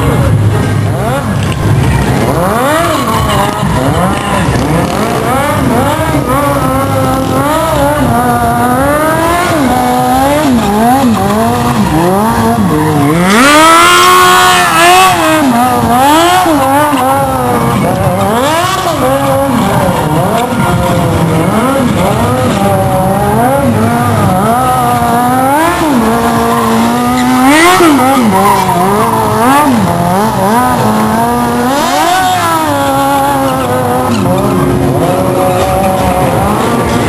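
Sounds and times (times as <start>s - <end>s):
engine revving hard: 0.0s - 37.0s.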